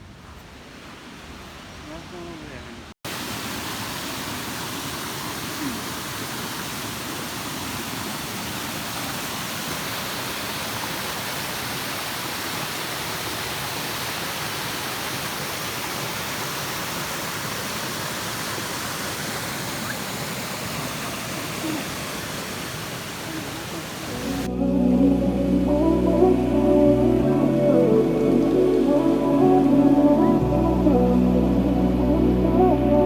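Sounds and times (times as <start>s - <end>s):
waterfall rushing: 3.1s - 33.0s.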